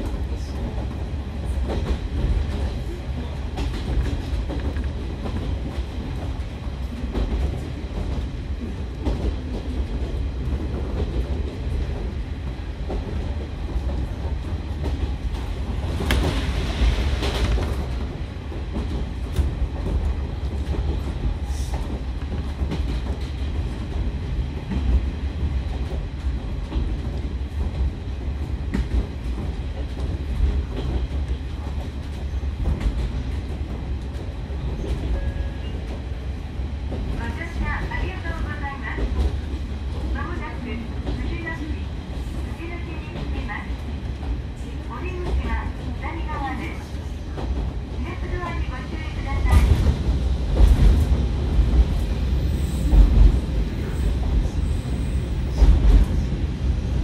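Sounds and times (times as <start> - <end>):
railcar engine and running gear rumble: 0.0 - 57.0.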